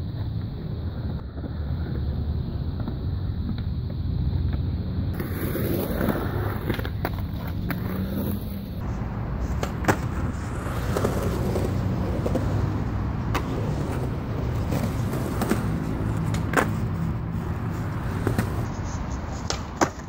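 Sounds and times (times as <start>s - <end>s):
skateboard clacks: 0.0s - 20.0s
skateboard wheels rolling on concrete: 0.0s - 20.0s.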